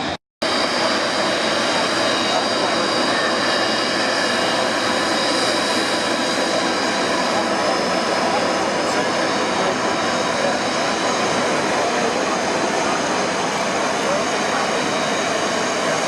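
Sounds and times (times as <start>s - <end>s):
high whining engine tones: 0.0s - 16.0s
jet engines rushing: 0.0s - 16.0s.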